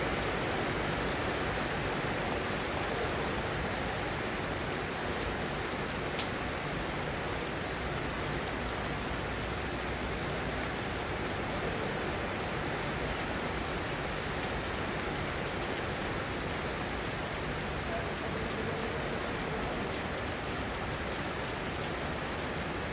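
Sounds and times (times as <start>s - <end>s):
steady rain falling: 0.0s - 22.9s.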